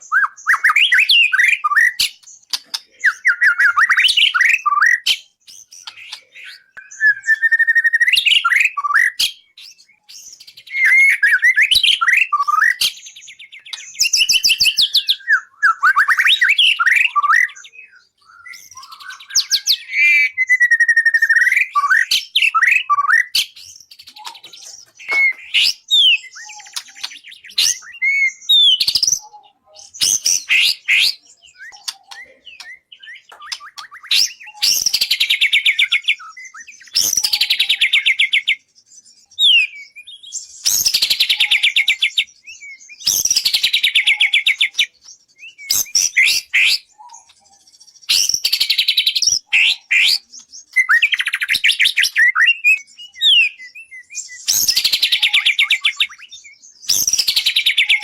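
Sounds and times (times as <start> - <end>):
songbird whistles and chirps: 0.0 - 58.0.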